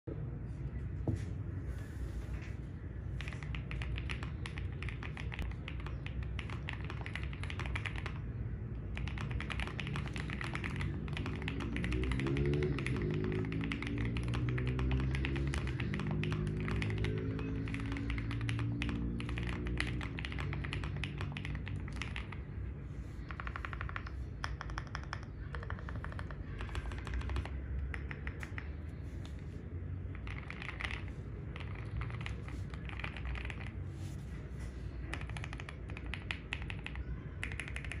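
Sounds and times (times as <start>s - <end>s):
mechanical keyboard typing: 3.1s - 22.6s, 23.2s - 29.0s, 29.9s - 33.9s, 34.9s - 38.0s.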